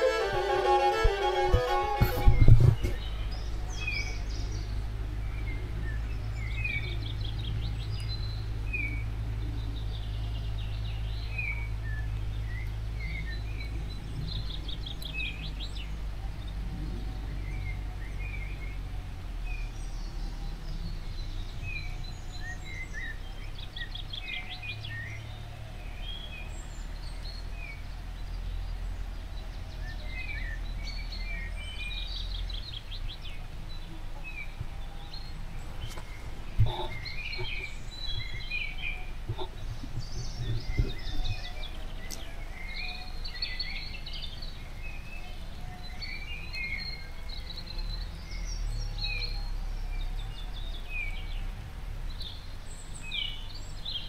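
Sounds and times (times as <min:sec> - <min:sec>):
low background rumble: 0:00.0 - 0:53.8
birds chirping: 0:00.0 - 0:54.0.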